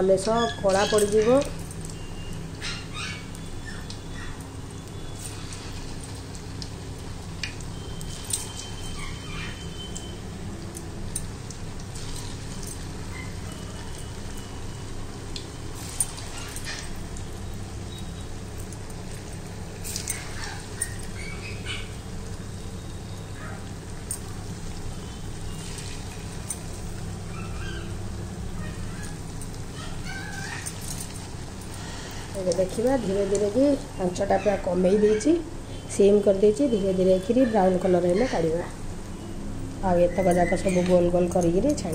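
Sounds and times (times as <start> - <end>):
deep-frying sizzle with pops: 0.0 - 34.0.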